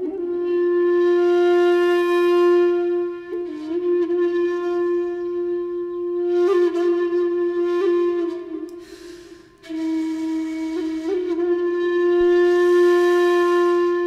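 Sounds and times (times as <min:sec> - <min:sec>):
solo flute music: 0:00.0 - 0:14.0.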